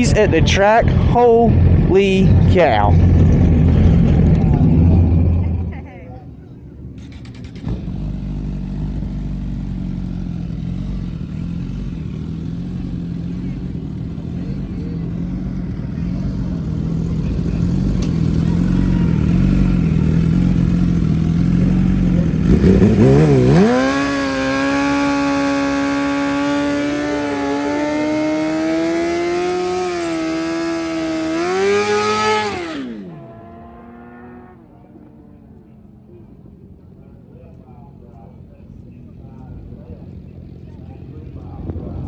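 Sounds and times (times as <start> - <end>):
motorcycle engine revving: 0.0 - 5.9, 7.0 - 35.6.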